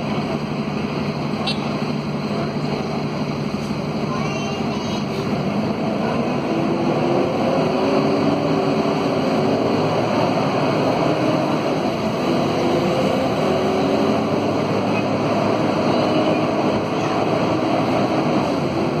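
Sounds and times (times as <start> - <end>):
diesel engine rumble: 0.0 - 19.0.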